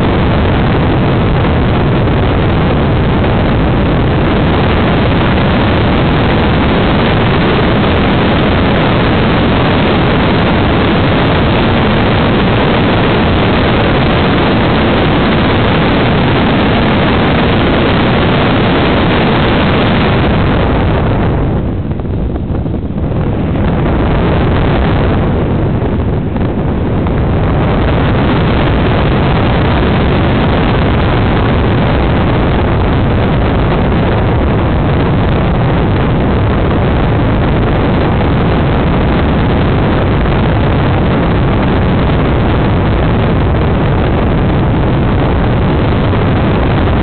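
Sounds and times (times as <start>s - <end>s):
motor and wind noise rushing: 0.0s - 47.0s.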